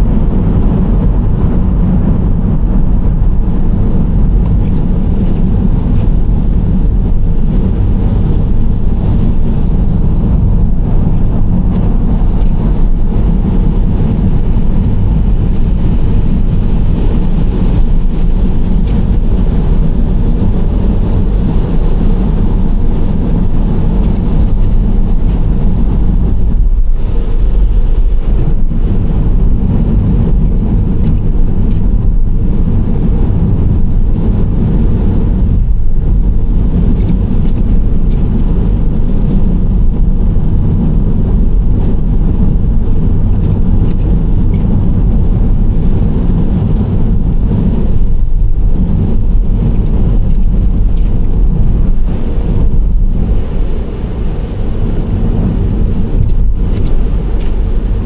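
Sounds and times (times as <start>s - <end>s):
car driving road rumble: 0.0s - 58.0s.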